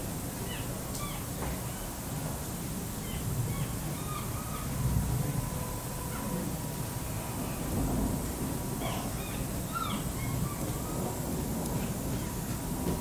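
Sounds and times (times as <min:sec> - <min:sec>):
distant thunder rumbling: 0:02.2 - 0:13.0.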